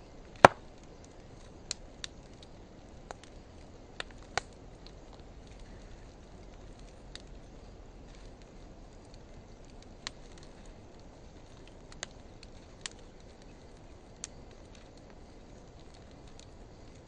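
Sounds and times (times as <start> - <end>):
hiss of flames: 0.0 - 17.0
wood fire crackling pops: 0.0 - 17.0.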